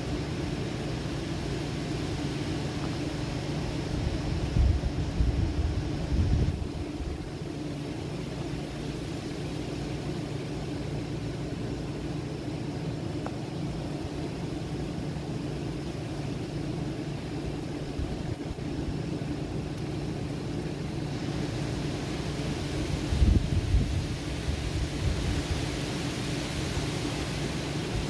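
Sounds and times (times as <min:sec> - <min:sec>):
constant low hum: 0:00.0 - 0:28.0
low outdoor rumble: 0:00.0 - 0:28.0.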